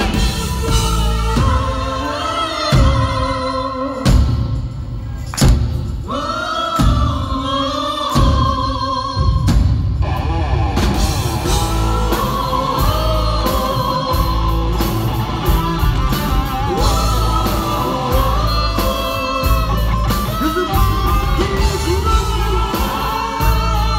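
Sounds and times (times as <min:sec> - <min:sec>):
live rock band playing: 0:00.0 - 0:06.0, 0:08.1 - 0:23.9.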